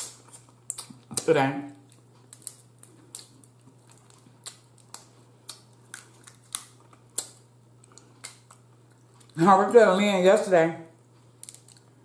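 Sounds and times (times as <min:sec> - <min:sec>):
crab shell cracking: 0:00.0 - 0:09.4, 0:11.4 - 0:11.9.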